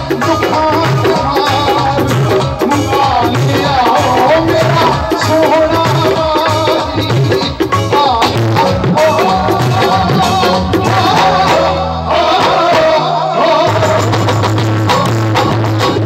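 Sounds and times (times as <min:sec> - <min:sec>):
folk devotional music over pa: 0:00.0 - 0:15.1
dholak drumming: 0:00.0 - 0:16.0
sustained bass notes: 0:00.0 - 0:16.0.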